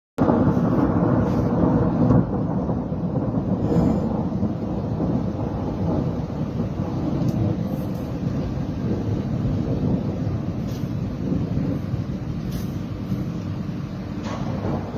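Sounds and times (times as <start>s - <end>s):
thunder rumbling: 0.2s - 14.9s.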